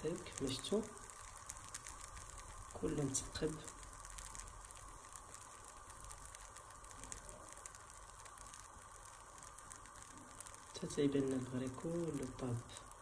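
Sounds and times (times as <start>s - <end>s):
batter sizzling in a pan: 0.0s - 13.0s.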